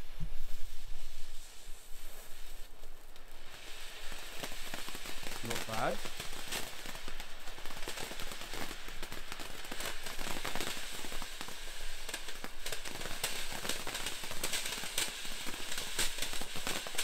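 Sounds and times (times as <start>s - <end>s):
firework fountain crackling hiss: 0.0s - 17.0s.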